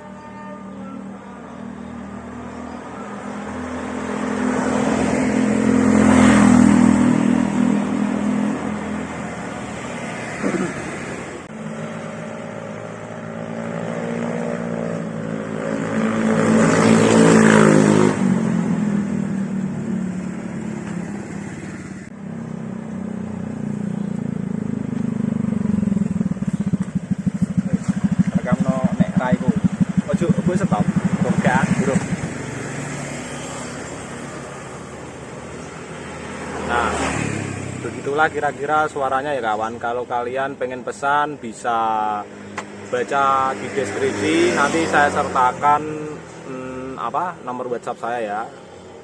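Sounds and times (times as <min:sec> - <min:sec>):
scooter engine revving and idling: 0:00.0 - 0:41.1, 0:41.7 - 0:49.0.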